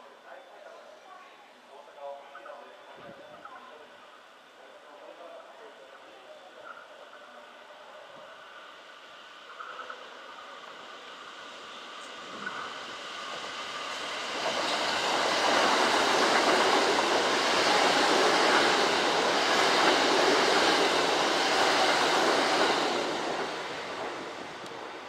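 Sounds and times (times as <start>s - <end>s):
electric train passing: 3.7s - 25.0s.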